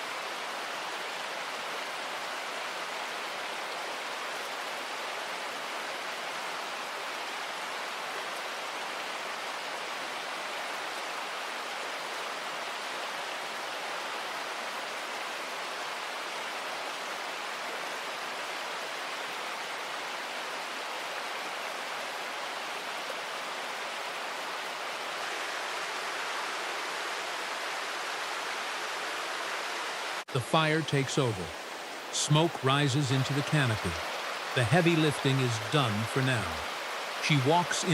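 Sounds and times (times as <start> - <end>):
fast-flowing river rushing: 0.0 - 37.9.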